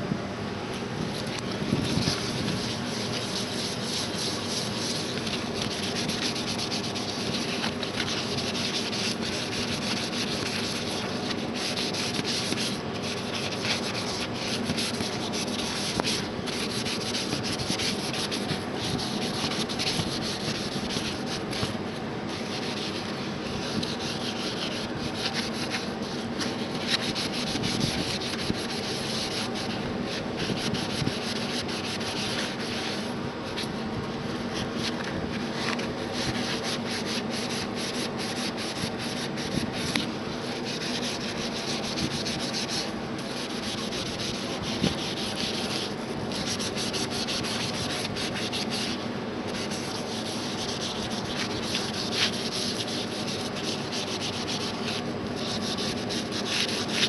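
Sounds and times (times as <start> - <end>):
sponge scrubbing metal: 1.1 - 57.0.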